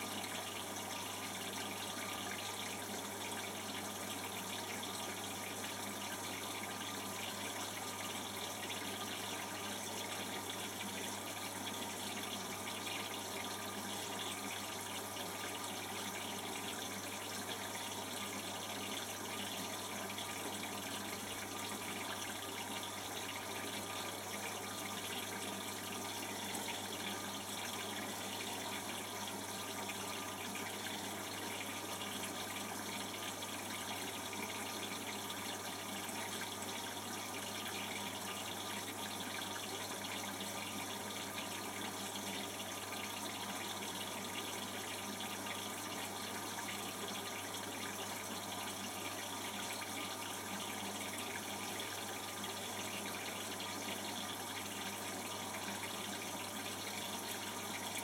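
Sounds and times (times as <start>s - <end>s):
water running into washing machine: 0.0s - 58.0s.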